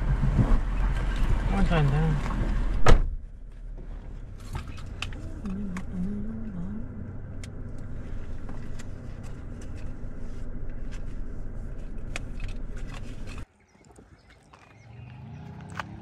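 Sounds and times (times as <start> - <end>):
vehicle engine idling: 0.0 - 13.4
outdoor air ambience: 0.0 - 16.0.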